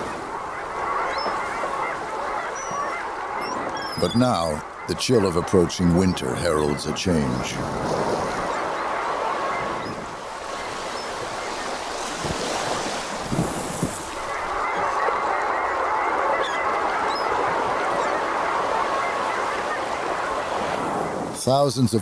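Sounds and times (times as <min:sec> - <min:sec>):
water washing: 0:00.0 - 0:21.0
ducks honking: 0:00.0 - 0:21.2.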